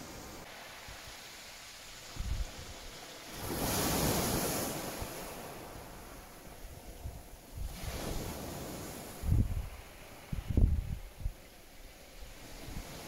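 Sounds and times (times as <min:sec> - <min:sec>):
waves breaking on shore: 0:00.0 - 0:13.0
wind rumble on microphone: 0:02.1 - 0:13.0.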